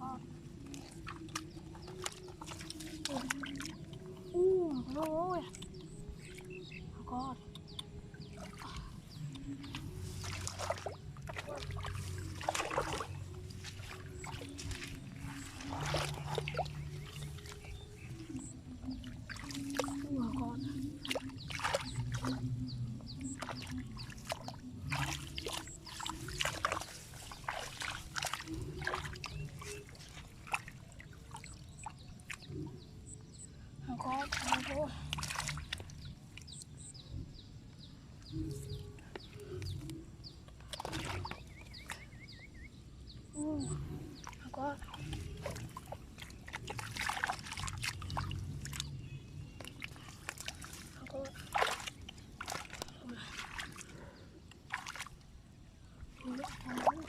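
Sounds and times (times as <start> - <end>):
low steady hum: 0.0 - 57.0
water splashing and trickling: 0.0 - 57.0.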